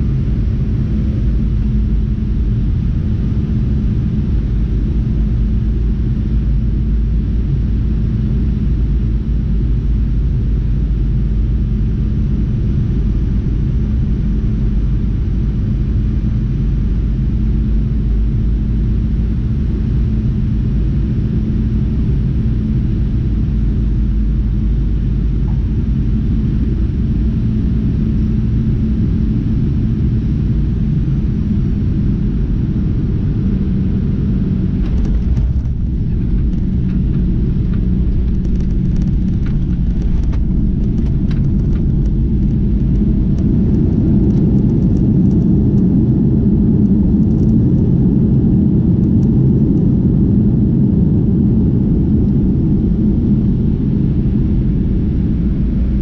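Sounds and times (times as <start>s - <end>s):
aircraft cabin rumble: 0.0s - 56.0s
steady hum: 0.0s - 56.0s.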